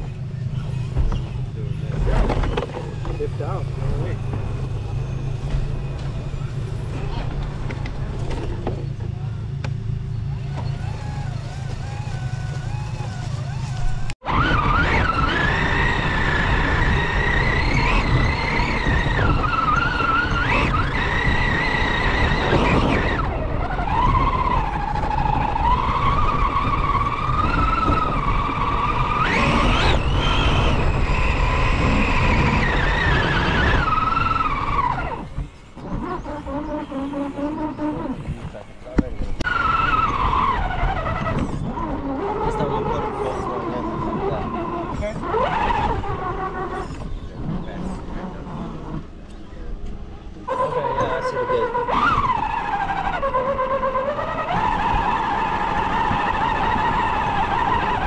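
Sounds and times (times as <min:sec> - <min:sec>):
electric motor whine: 0:00.0 - 0:58.0.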